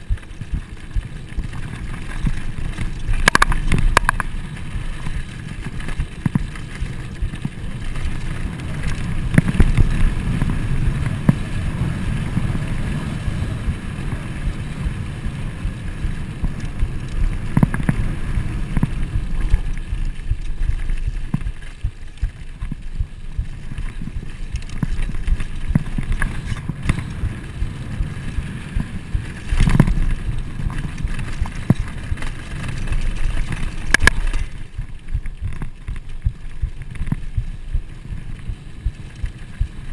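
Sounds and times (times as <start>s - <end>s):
bike rattling and knocking: 0.0s - 39.9s
bike tyres rolling on dirt: 0.0s - 39.9s
wind on microphone: 0.0s - 39.9s.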